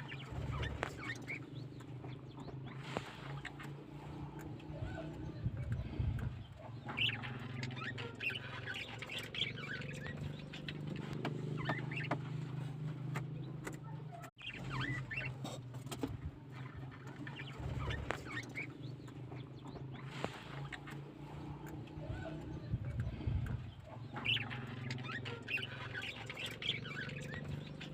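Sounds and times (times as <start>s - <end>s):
budgerigars chirping: 0.0s - 27.9s.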